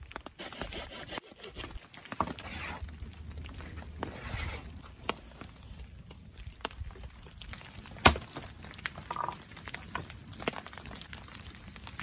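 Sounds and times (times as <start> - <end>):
straw burning and crackling: 0.0 - 12.0.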